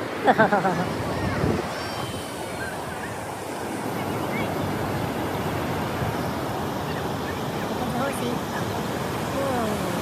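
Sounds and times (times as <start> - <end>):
ocean waves washing onto beach: 0.0 - 10.0.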